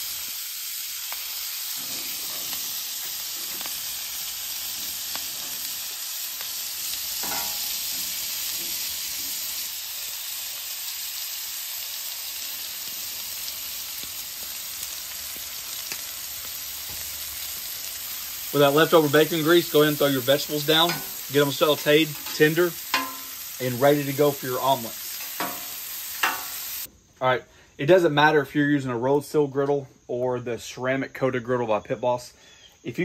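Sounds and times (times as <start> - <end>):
vegetables sizzling on griddle: 0.0 - 26.9.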